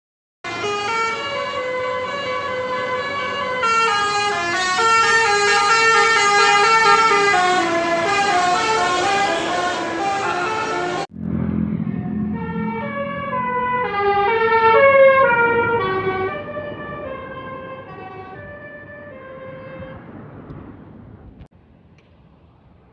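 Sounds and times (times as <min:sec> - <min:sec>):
multi-tone bus horn melody: 0:00.4 - 0:11.1, 0:12.0 - 0:20.0
bus engine rumble: 0:00.5 - 0:22.9.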